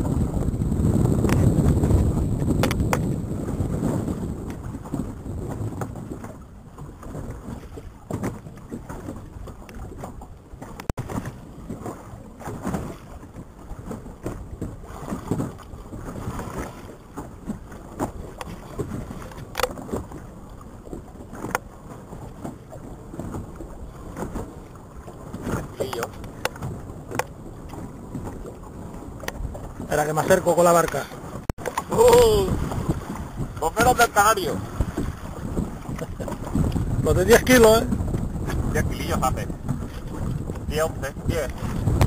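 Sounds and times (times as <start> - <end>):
water lapping against boat: 0.0 - 42.0
water splashes: 0.0 - 42.0.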